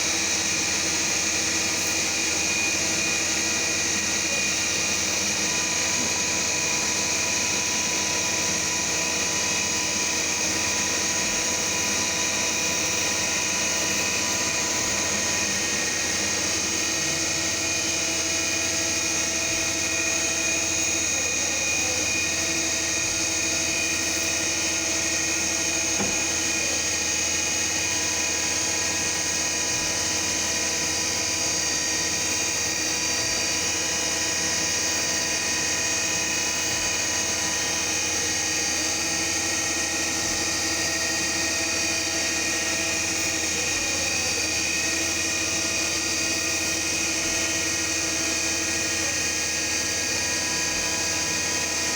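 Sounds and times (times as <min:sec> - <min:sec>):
milling machine spindle whine: 0:00.0 - 0:51.9.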